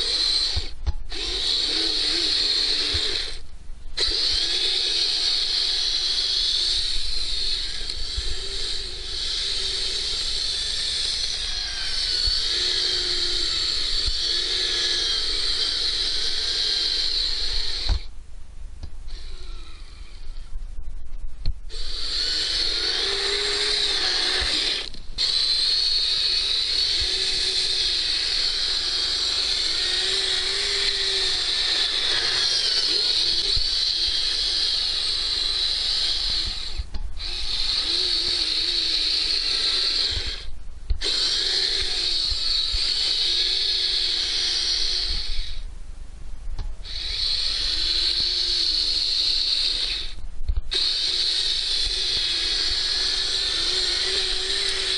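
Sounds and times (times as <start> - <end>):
small electric motor whining: 0.0 - 18.1, 19.1 - 20.6, 21.7 - 45.7, 46.8 - 54.9.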